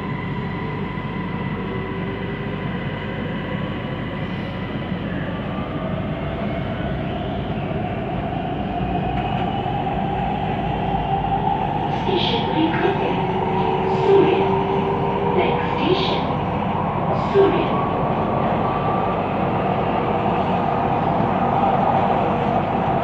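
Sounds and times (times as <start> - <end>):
metro train rolling noise: 0.0 - 23.0.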